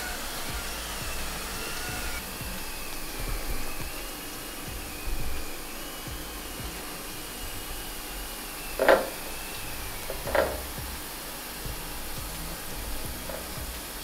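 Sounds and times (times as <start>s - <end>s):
faint steady whir: 0.0s - 14.0s.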